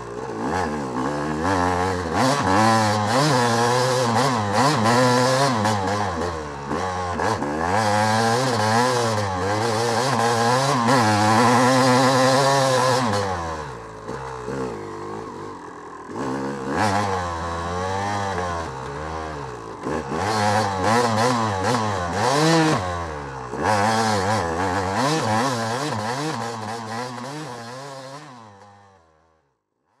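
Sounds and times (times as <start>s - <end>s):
motorcycle engine revving: 0.0s - 29.5s.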